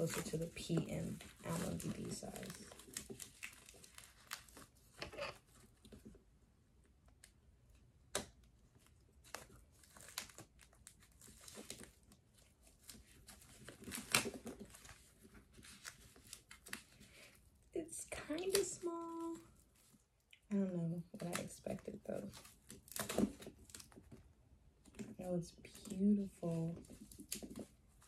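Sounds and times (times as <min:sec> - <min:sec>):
plastic wrapping crinkling and tearing: 0:00.0 - 0:06.1, 0:08.7 - 0:20.0, 0:20.8 - 0:24.2, 0:24.9 - 0:28.0.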